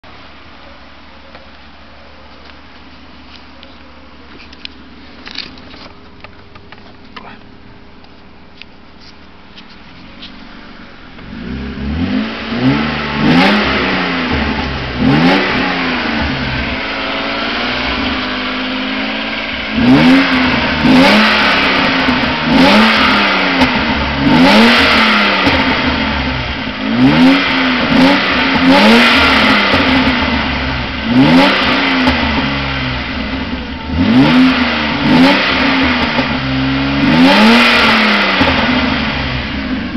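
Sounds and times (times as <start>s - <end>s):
car engine idling and revving: 0.0s - 39.9s
exhaust: 0.0s - 39.9s.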